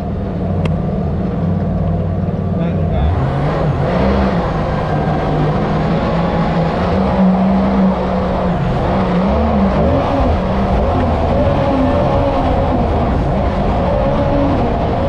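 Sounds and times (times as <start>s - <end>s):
jet boat engine running hard: 0.0s - 15.0s.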